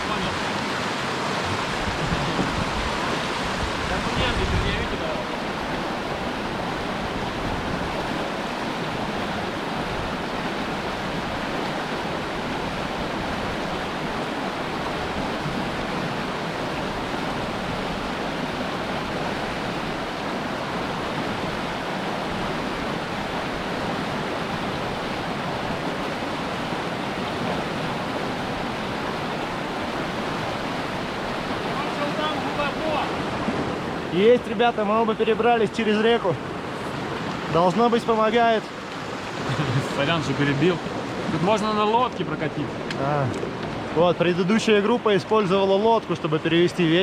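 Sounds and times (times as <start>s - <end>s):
fast-flowing river rushing: 0.0s - 47.0s.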